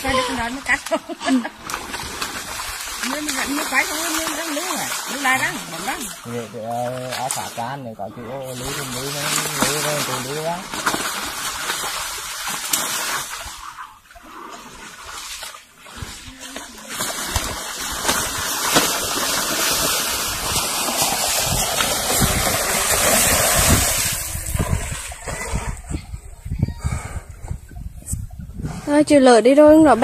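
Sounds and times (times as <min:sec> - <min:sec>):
water and mud splashing: 0:00.0 - 0:30.0.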